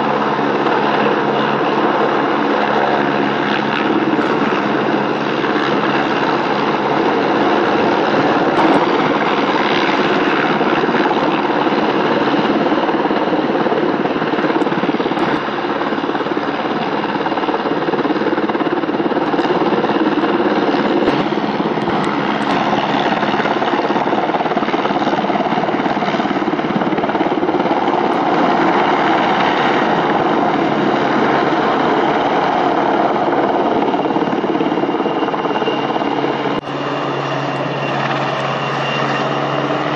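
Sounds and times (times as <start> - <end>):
helicopter rotor noise: 0.0 - 39.9
turbine whine: 0.0 - 39.9.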